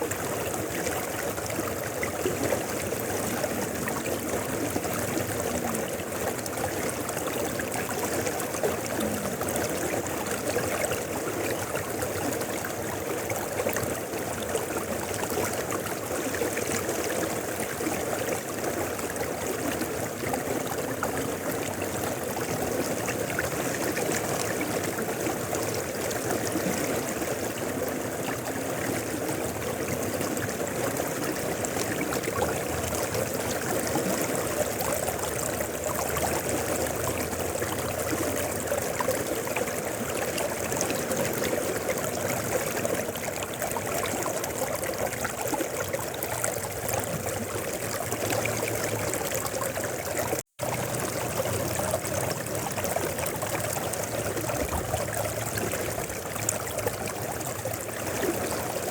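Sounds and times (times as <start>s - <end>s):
river flowing: 0.0s - 58.9s.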